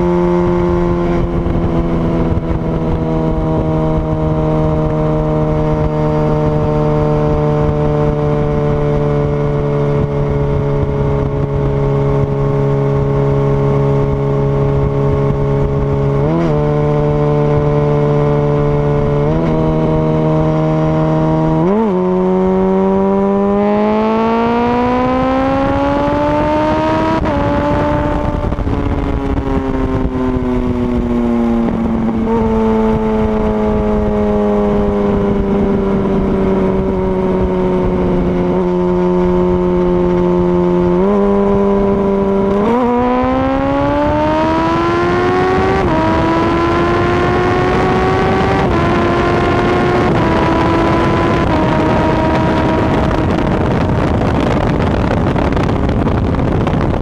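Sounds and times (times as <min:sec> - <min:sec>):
motorcycle engine: 0:00.0 - 0:57.0
wind rush: 0:00.0 - 0:57.0.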